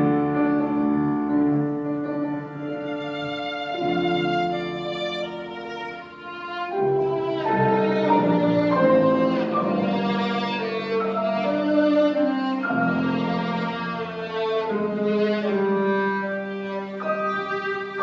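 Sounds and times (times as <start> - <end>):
violin playing long notes: 0.0 - 18.0.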